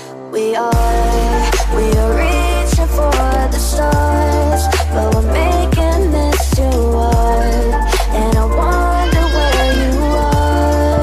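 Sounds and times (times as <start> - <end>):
electronic music: 0.8 - 11.0.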